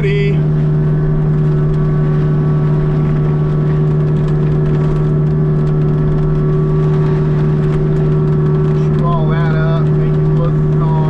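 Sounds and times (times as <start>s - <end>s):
excavator diesel engine and mulcher drone: 0.0s - 11.0s.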